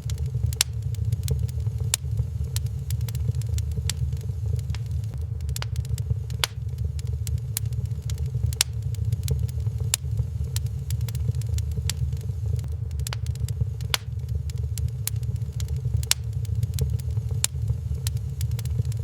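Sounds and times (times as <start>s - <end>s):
steady low rumble: 0.0s - 19.0s
wood fire crackling: 0.0s - 19.0s.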